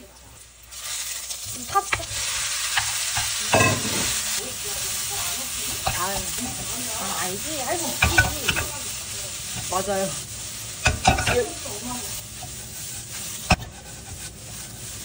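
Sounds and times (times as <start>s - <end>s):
cabbage sizzling in wok: 0.0s - 15.0s
spatula clacking and scraping wok: 0.8s - 15.0s.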